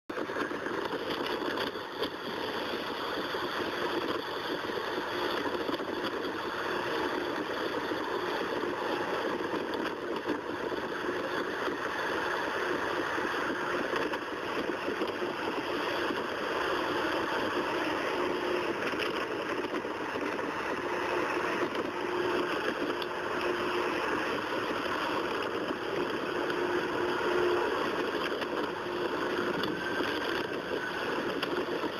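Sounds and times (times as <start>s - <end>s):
faint steady hum: 0.1s - 31.9s
jet engines rushing: 0.2s - 31.9s.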